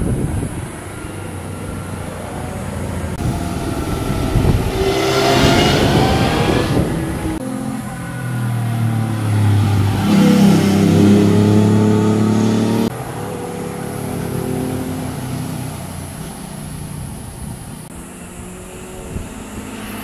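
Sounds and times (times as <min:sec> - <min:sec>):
vehicle engine accelerating: 0:00.1 - 0:20.0
vehicle passing: 0:00.4 - 0:20.0.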